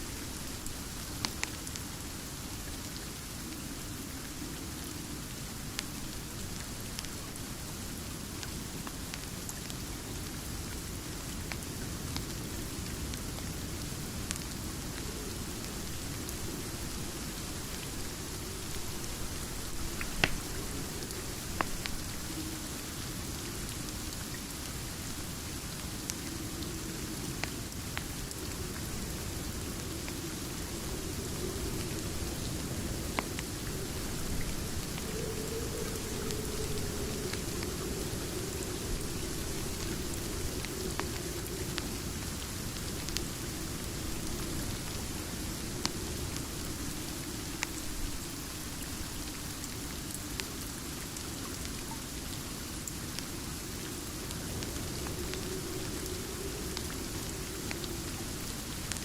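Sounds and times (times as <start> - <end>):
steady rain: 0.0 - 59.0
wood fire crackles: 0.1 - 59.0.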